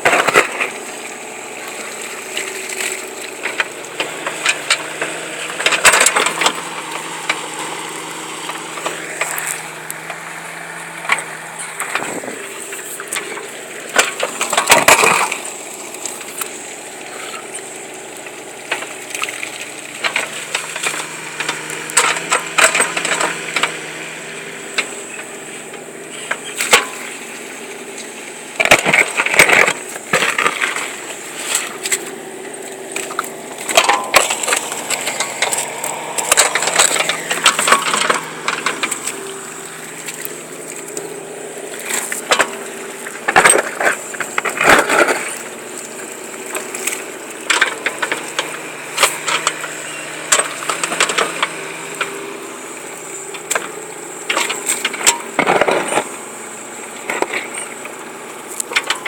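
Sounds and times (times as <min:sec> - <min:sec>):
crunching and cracking impacts: 0:00.0 - 0:56.2
engine humming: 0:00.0 - 0:59.0.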